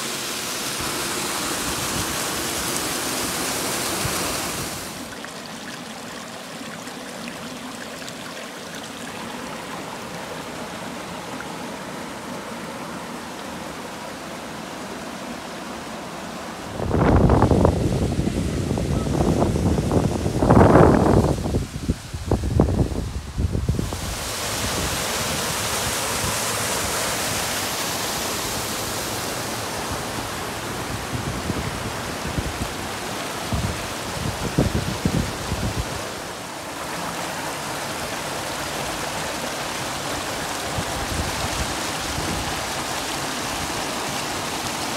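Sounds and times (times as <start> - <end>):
waterfall running into rock pool: 0.0 - 15.0, 22.4 - 44.9.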